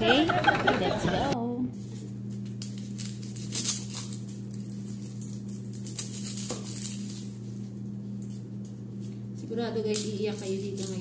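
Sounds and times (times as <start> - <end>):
steady low hum: 0.0 - 11.0
onion skin crackling and rustling: 1.8 - 11.0.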